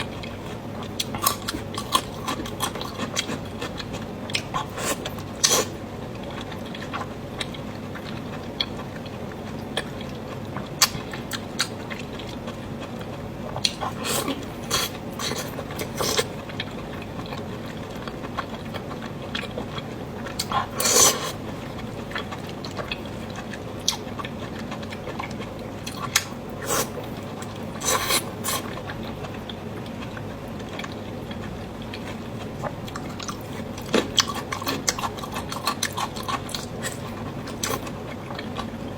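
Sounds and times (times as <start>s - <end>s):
person chewing noodles: 0.0s - 38.9s.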